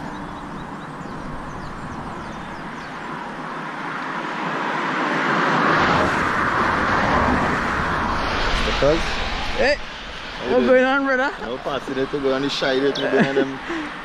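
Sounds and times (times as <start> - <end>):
road traffic noise: 0.0 - 14.0
vehicle passing close by: 0.0 - 14.0.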